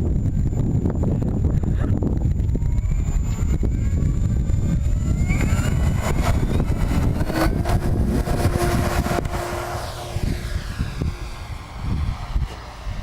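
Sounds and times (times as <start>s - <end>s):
electric motors and propellers whining: 0.0s - 13.0s
wind rumbling on microphone: 0.0s - 13.0s.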